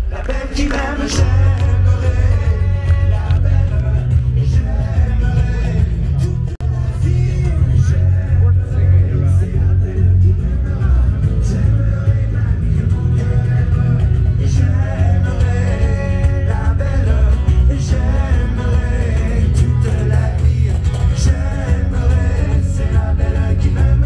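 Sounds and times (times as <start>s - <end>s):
guitar: 0.0s - 24.0s
heavy bass: 0.0s - 24.0s
person singing: 0.0s - 24.0s.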